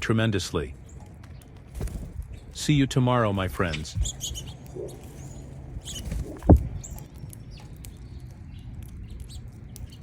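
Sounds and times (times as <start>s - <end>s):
small songbirds chirping: 0.0s - 10.0s.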